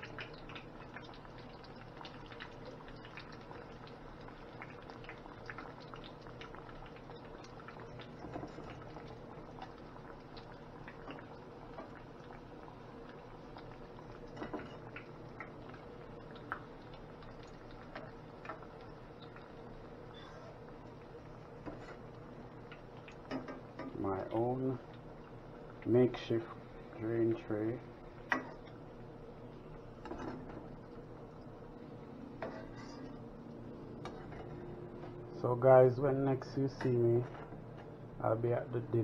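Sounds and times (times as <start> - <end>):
food deep-frying in oil: 0.0 - 39.0.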